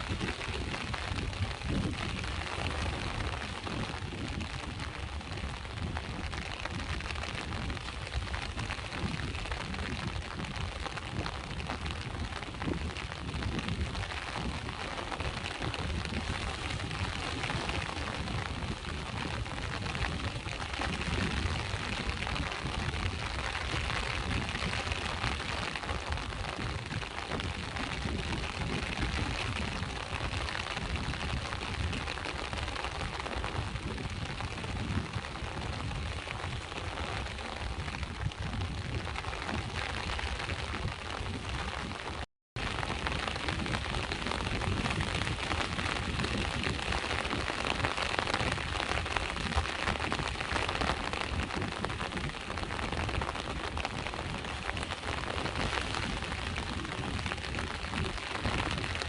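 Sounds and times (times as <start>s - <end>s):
low rumble of waves: 0.0s - 59.0s
rain hissing: 0.0s - 59.0s.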